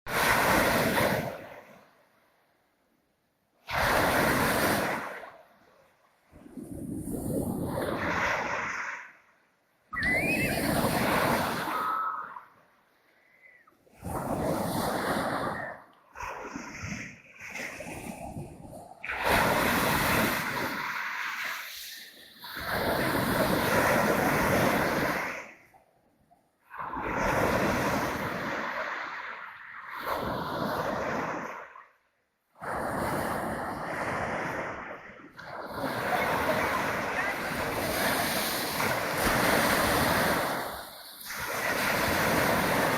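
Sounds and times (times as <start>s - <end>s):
waves washing on shore: 0.1s - 2.0s, 3.6s - 25.8s, 26.6s - 42.9s.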